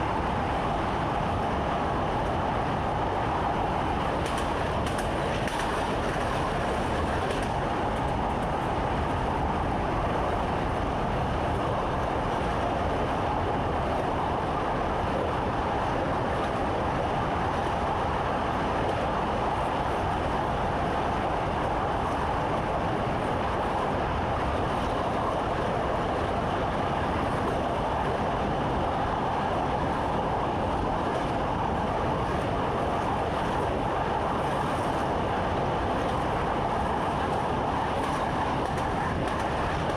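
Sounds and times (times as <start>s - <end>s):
electric train running with hum: 0.0s - 39.9s.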